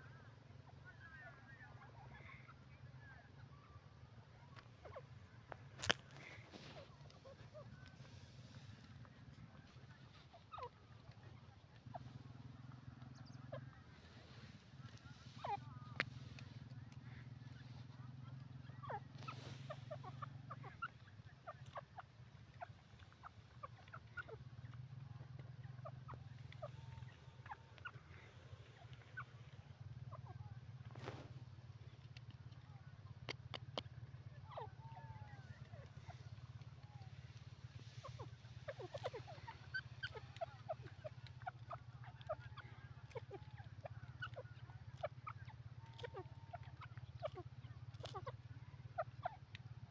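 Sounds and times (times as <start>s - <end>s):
birds chirping: 0.0s - 49.9s
steady low hum: 0.0s - 49.9s.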